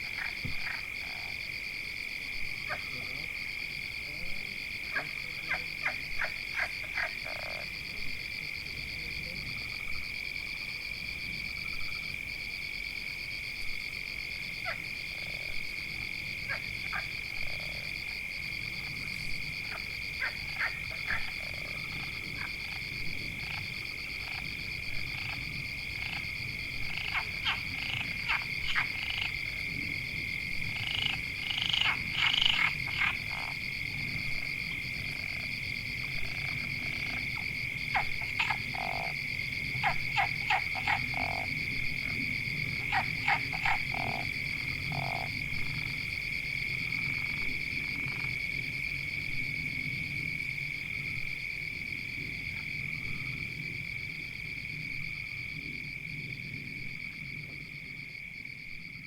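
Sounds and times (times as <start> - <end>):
frogs trilling: 0.0 - 12.6, 14.4 - 56.3
frogs croaking: 0.0 - 59.0.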